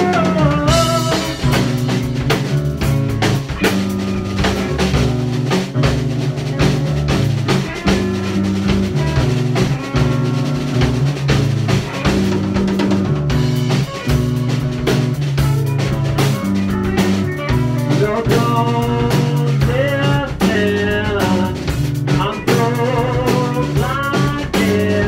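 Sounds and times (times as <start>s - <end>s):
bass guitar low notes: 0.0s - 25.0s
drum kit: 0.0s - 25.0s
electric guitar: 0.0s - 25.0s.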